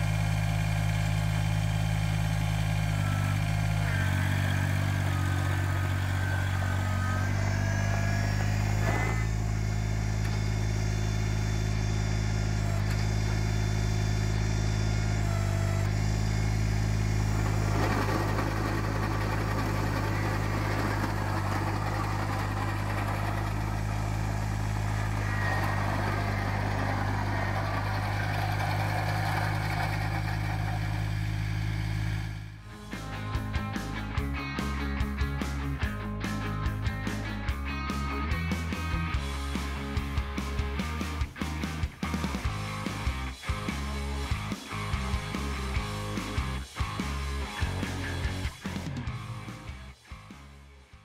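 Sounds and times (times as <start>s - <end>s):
high whine: 0.0s - 50.3s
diesel tractor engine running: 0.0s - 51.0s.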